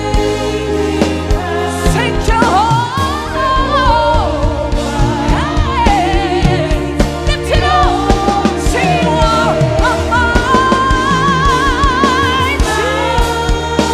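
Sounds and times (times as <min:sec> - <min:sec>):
band's steady beat: 0:00.0 - 0:13.9
sustained keyboard chords: 0:00.0 - 0:13.9.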